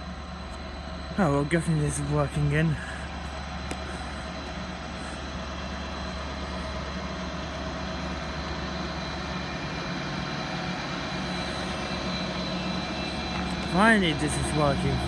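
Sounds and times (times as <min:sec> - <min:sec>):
faint high whine: 0:00.0 - 0:15.0
train engine humming: 0:00.0 - 0:15.0.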